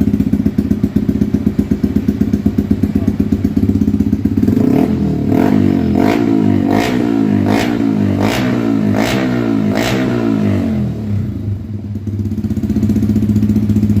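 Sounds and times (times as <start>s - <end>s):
motorcycle engine idling: 0.0s - 14.0s
motorcycle engine revving: 0.0s - 14.0s.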